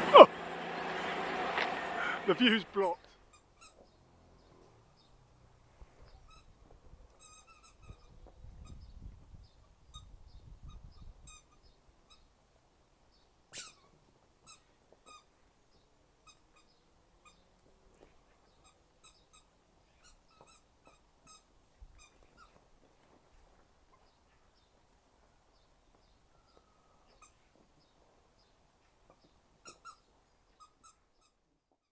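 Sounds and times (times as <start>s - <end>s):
faint birds chirping: 2.0s - 21.0s, 21.6s - 31.4s.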